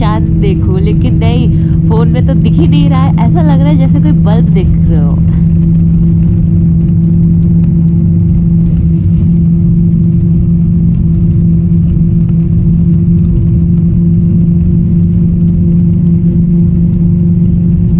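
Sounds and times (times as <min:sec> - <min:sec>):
bus engine hum: 0:00.0 - 0:17.9
road rumble: 0:00.0 - 0:17.9.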